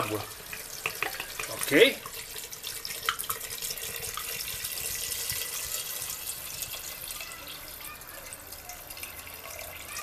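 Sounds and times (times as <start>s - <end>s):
water pouring from a kettle: 0.0s - 10.0s.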